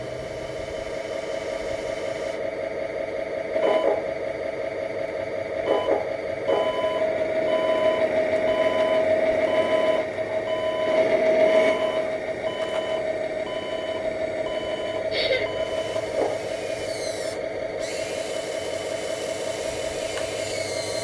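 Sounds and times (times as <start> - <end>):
reversing beeper: 0.0 - 2.4, 3.6 - 4.1, 5.6 - 19.8
simulated diesel engine through speaker: 0.0 - 21.0.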